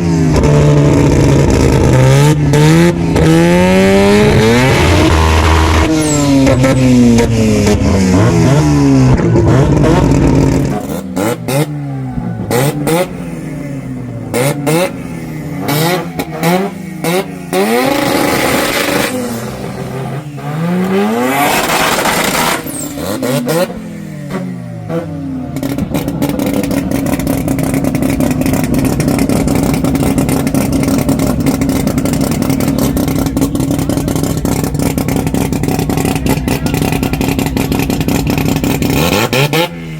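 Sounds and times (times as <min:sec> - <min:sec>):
car engine revving: 0:00.0 - 0:39.9
car engine idling: 0:03.0 - 0:39.9.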